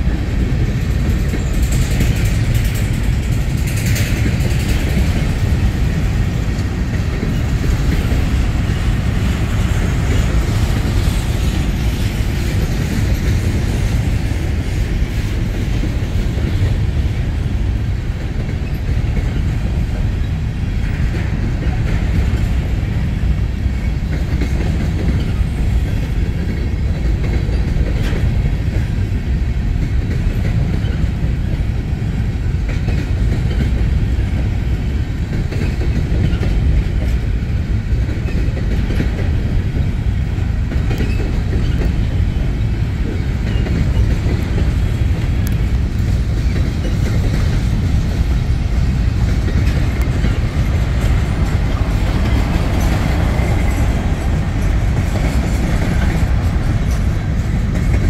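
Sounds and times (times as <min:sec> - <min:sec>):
train wheels rumbling on rail: 0:00.0 - 0:58.0
wheels clicking over rail joints: 0:00.0 - 0:58.0.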